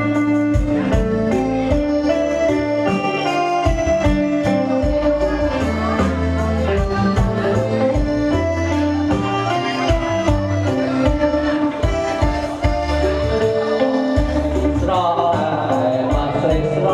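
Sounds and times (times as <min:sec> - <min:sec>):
electronic keyboard music with beat: 0:00.0 - 0:16.9.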